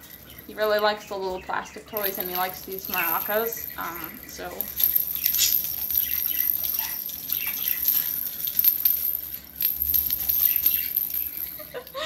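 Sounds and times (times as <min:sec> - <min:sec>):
plastic toy rattling: 0:00.0 - 0:01.2, 0:01.8 - 0:12.0
small metal chains jingling: 0:00.0 - 0:12.0.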